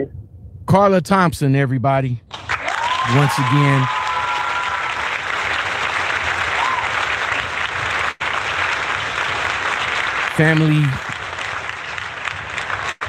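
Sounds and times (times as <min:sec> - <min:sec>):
crowd applause: 0:02.3 - 0:13.0.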